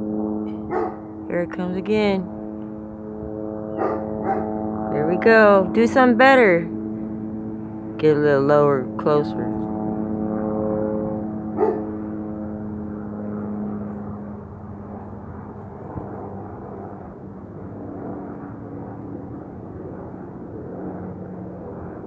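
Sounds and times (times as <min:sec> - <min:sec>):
helicopter droning overhead: 0:00.0 - 0:22.0.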